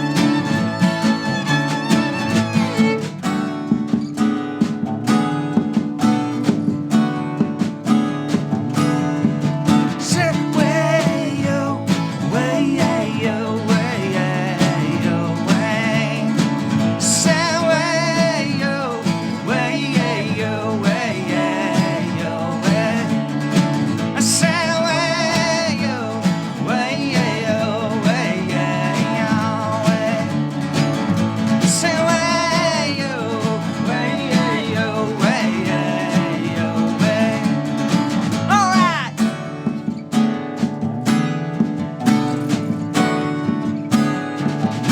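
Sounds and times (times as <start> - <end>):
low rhythm part: 0.0 - 44.9
strummed acoustic guitar: 0.0 - 44.9.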